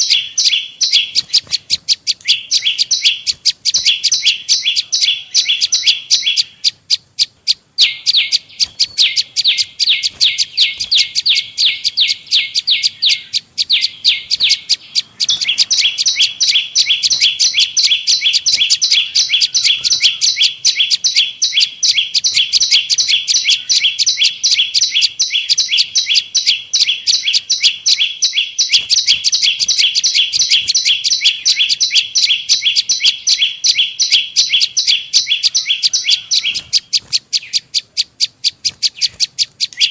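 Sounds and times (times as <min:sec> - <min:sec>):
high sharp bird chirping: 0:00.0 - 0:39.9.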